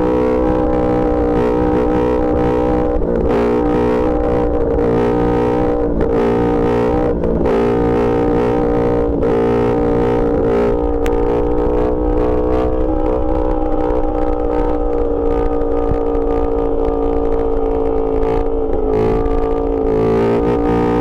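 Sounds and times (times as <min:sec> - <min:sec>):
motorcycle engine at high rpm: 0:00.0 - 0:21.0.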